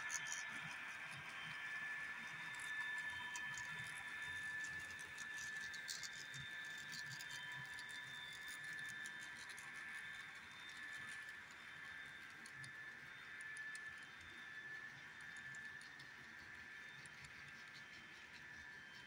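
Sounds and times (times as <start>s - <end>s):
model locomotive motor whine: 0.0s - 19.0s.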